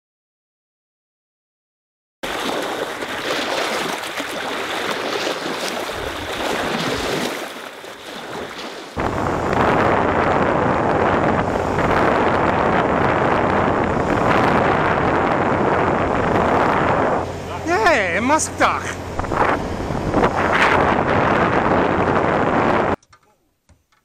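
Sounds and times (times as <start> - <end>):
water rushing past boat hull: 2.2 - 23.0
wind buffeting microphone: 2.2 - 23.0.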